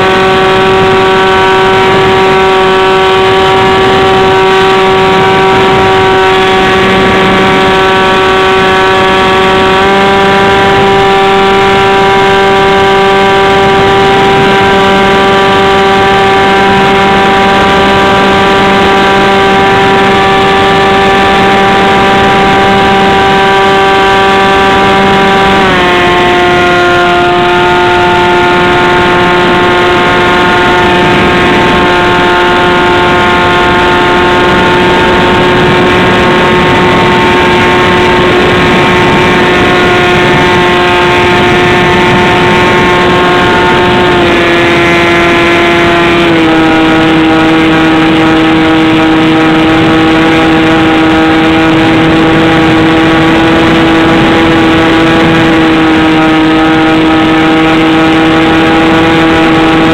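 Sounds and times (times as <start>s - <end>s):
model airplane motor whine: 0.0s - 59.9s.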